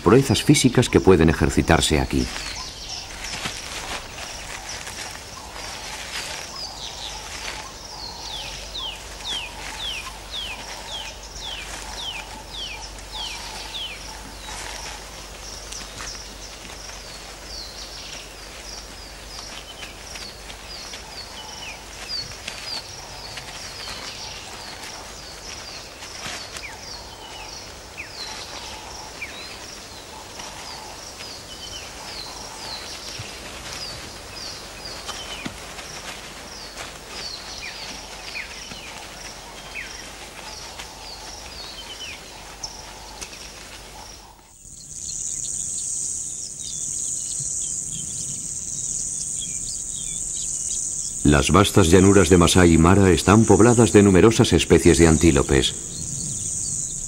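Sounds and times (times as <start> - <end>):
birds chirping: 0.0 - 57.0
low background noise: 0.0 - 57.0.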